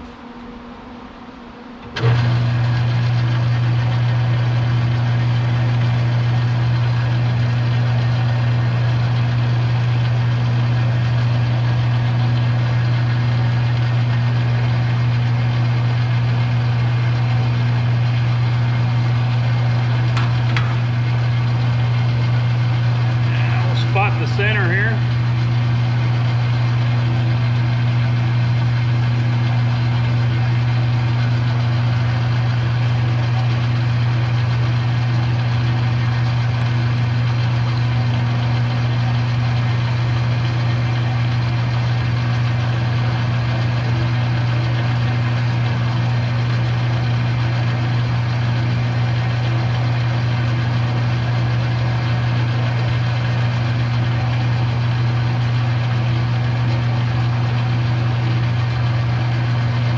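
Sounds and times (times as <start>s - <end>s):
metal lathe humming: 0.0s - 59.9s.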